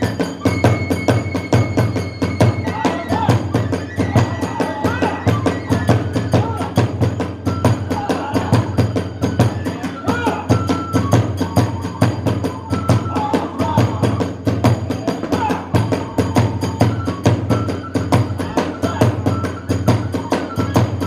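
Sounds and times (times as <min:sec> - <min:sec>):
bamboo flute melody: 0:00.0 - 0:21.0
drums beating: 0:00.0 - 0:21.0
hand cymbals: 0:00.0 - 0:21.0.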